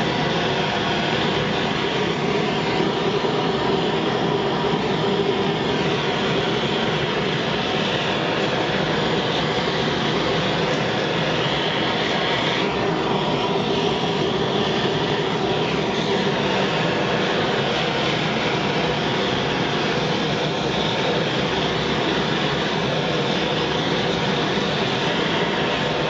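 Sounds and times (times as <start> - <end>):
propane torch burning: 0.0 - 26.0.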